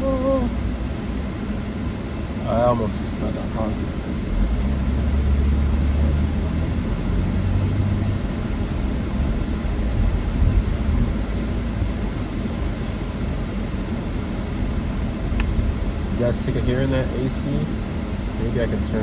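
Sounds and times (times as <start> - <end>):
car air conditioning fan blowing: 0.0 - 19.0
low rumble of moving car: 0.0 - 19.0.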